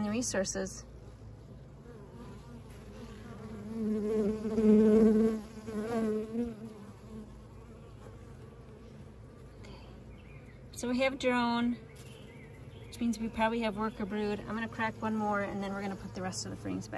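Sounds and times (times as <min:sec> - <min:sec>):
bees buzzing: 0:00.0 - 0:16.9
single bee humming: 0:00.9 - 0:16.9.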